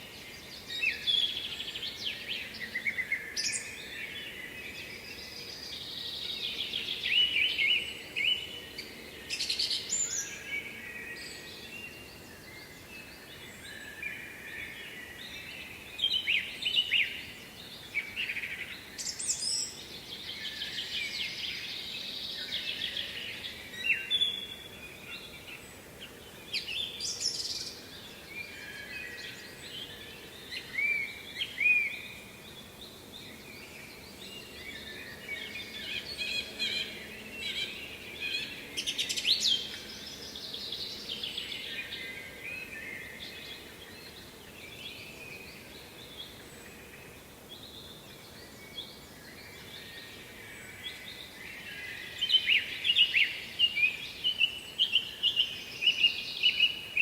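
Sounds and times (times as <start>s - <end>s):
faint steady background noise: 0.0s - 57.0s
songbirds singing and chirping: 0.0s - 57.0s.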